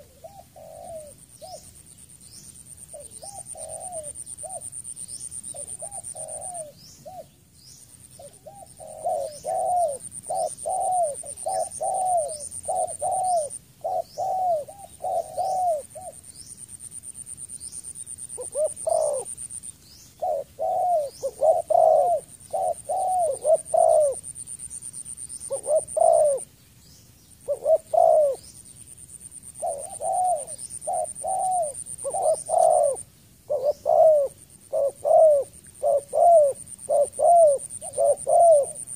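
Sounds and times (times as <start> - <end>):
dove cooing: 0.0 - 1.8, 2.8 - 7.4, 8.2 - 16.3, 18.3 - 19.5, 20.2 - 24.6, 25.3 - 26.5, 27.4 - 28.5, 29.4 - 38.9.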